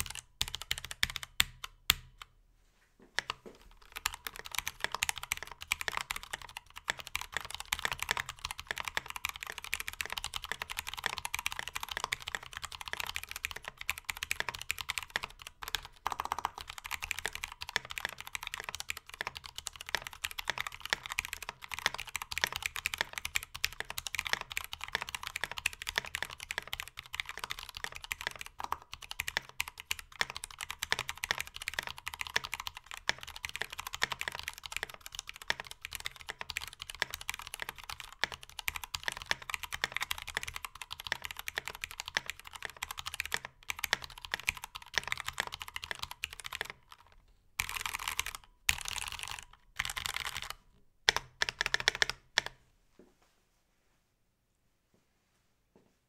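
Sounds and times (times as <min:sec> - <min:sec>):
mechanical keyboard typing: 0:00.0 - 0:02.3, 0:03.2 - 0:52.6.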